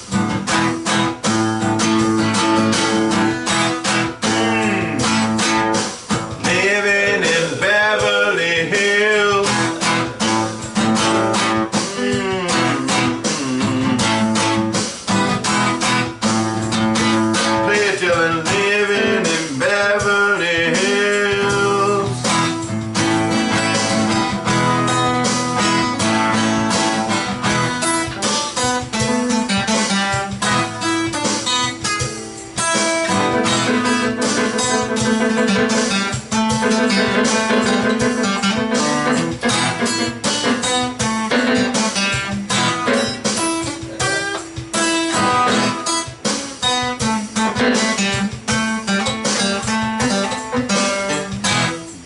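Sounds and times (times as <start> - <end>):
rock guitar playing: 0.0 - 52.0.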